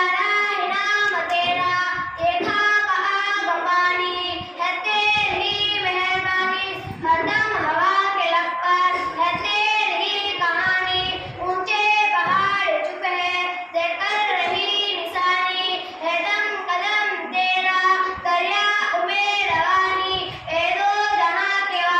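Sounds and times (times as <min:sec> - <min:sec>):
child singing: 0:00.0 - 0:21.9.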